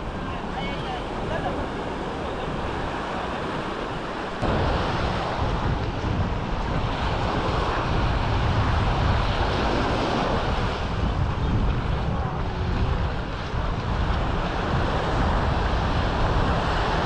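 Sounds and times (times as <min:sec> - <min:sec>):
sea surf washing on shore: 0:00.0 - 0:17.0
wind buffeting microphone: 0:00.0 - 0:17.0.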